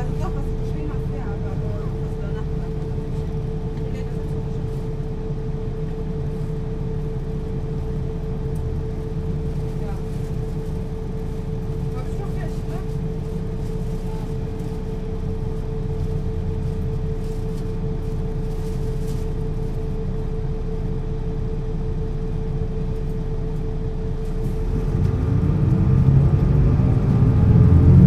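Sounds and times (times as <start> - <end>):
bus diesel engine: 0.0 - 28.0
steady hum: 0.0 - 28.0.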